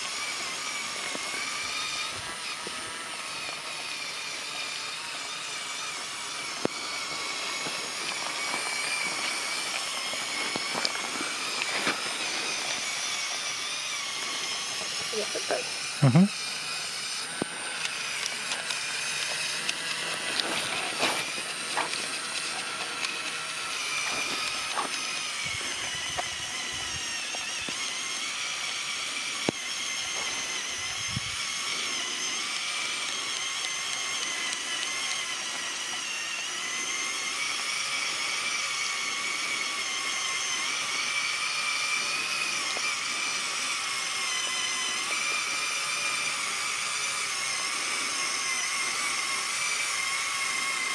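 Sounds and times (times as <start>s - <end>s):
toy truck motors whining: 0.0s - 50.9s.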